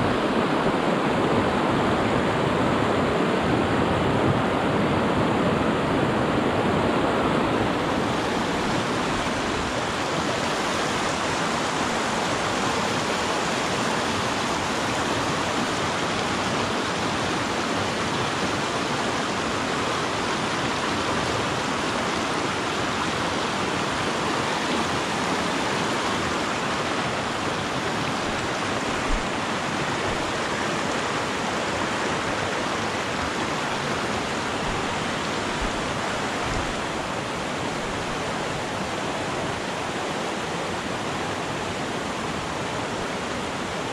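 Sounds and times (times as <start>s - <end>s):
creek rushing over rocks: 0.0s - 43.9s.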